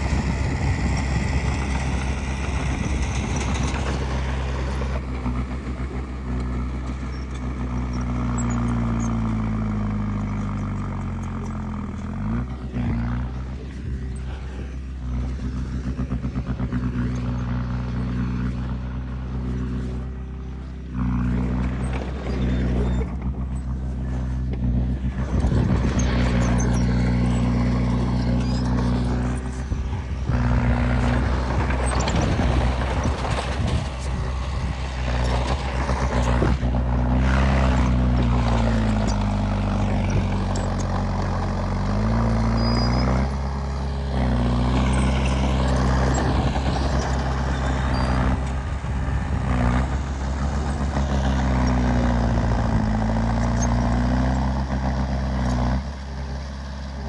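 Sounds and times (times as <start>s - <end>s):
heavy machinery diesel engine: 0.0s - 57.0s
machinery rattling and clanking: 0.0s - 57.0s.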